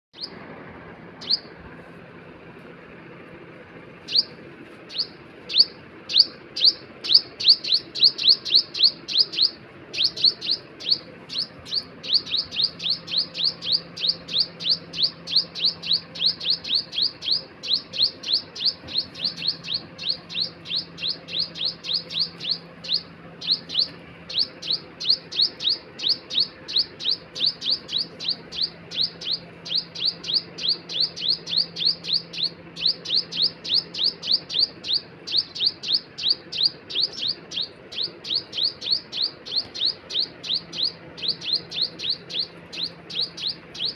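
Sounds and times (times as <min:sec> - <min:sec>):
bird chirping: 0:00.2 - 0:00.6, 0:01.2 - 0:01.6, 0:04.0 - 0:43.9.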